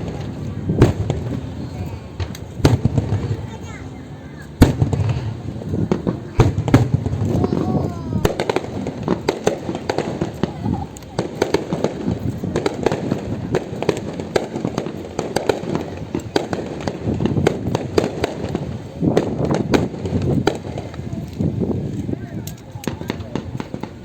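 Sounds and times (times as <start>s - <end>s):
crowd murmur: 0.0s - 24.0s
fireworks cracking and banging: 0.0s - 24.0s.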